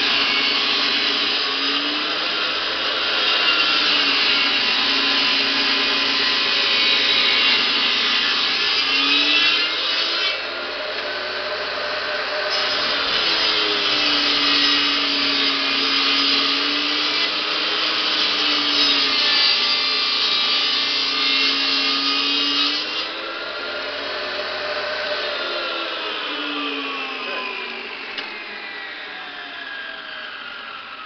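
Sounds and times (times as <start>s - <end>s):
saw motor winding down: 0.0s - 31.0s
table saw cutting wood: 0.0s - 31.0s.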